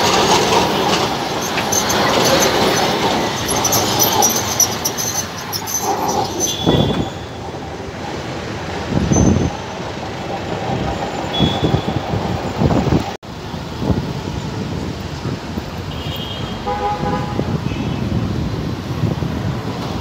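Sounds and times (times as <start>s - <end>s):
tram rolling past: 0.0s - 15.9s, 18.0s - 20.0s
street traffic: 0.0s - 20.0s.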